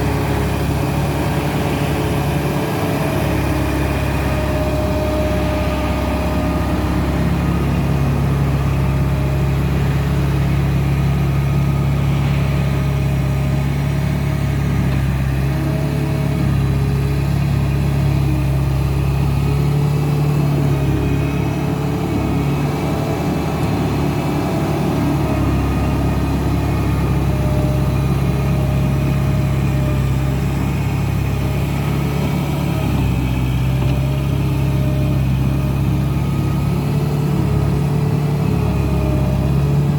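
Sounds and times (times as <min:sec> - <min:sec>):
loader diesel engine rumbling: 0:00.0 - 0:39.9.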